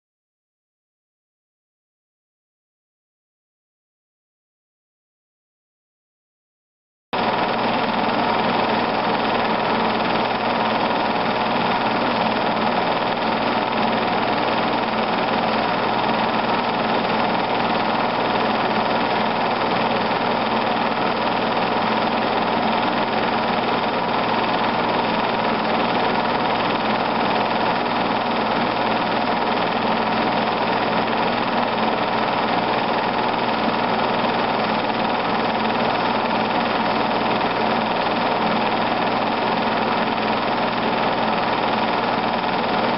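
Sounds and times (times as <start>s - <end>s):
film projector whirring: 7.2s - 42.9s.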